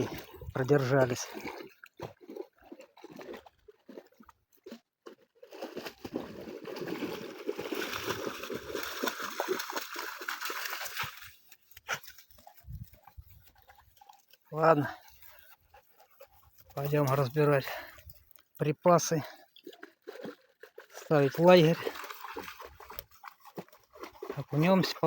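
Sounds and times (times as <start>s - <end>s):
dogs splashing in water: 0.0s - 18.3s, 19.0s - 25.0s.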